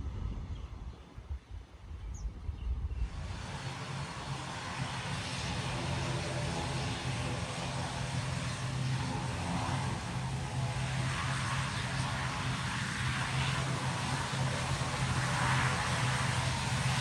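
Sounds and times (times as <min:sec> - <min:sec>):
turboprop engines humming: 0:00.1 - 0:17.0.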